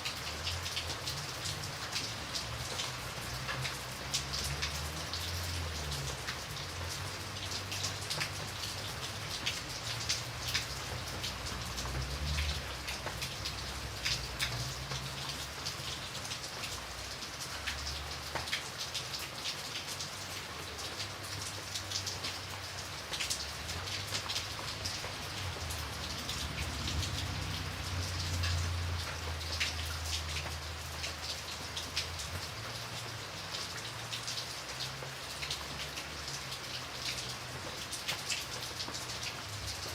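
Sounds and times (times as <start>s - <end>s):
raindrops striking a surface: 0.0s - 39.9s
steady rain: 0.0s - 39.9s.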